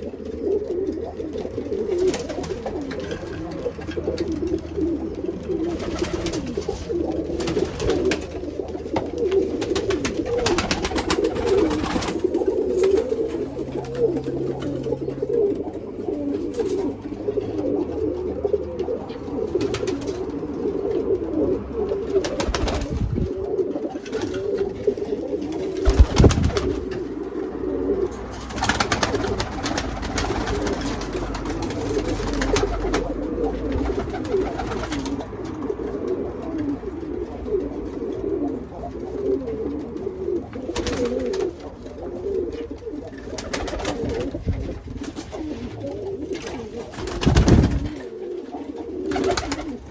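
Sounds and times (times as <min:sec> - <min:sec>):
pigeons cooing: 0:00.0 - 0:49.9.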